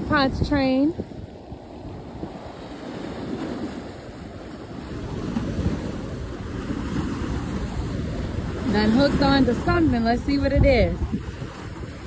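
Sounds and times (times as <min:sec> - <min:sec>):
waves breaking against seawall: 0:00.0 - 0:12.0
wind buffeting microphone: 0:00.0 - 0:12.0.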